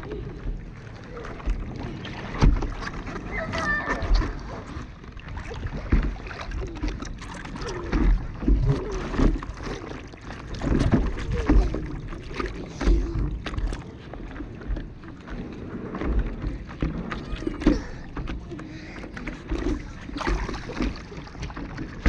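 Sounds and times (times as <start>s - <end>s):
water splashing and lapping: 0.0s - 22.0s.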